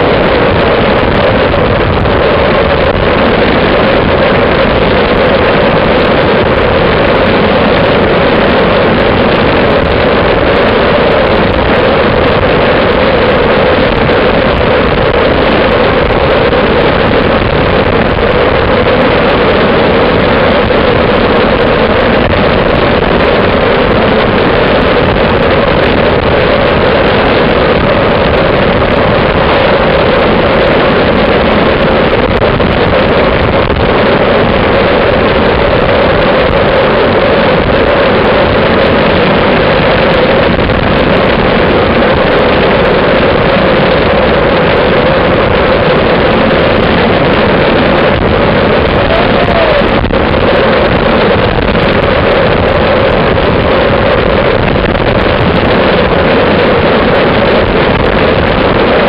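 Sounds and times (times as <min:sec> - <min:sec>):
road noise: 0:00.0 - 0:59.0
wind rush on microphone: 0:00.0 - 0:59.0.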